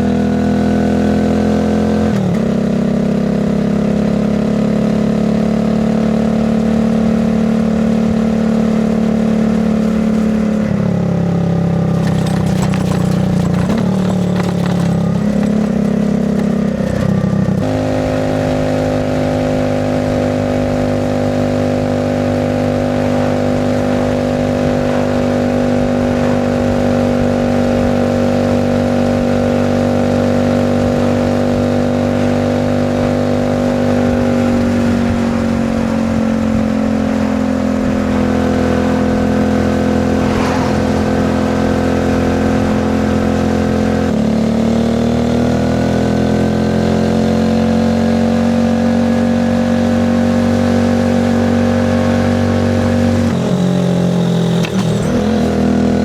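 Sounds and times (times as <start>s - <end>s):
moped engine running: 0.0s - 56.0s.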